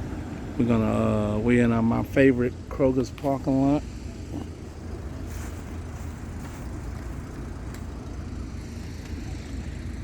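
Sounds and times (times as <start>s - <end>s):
low rumble of vehicle noise: 0.0s - 10.0s.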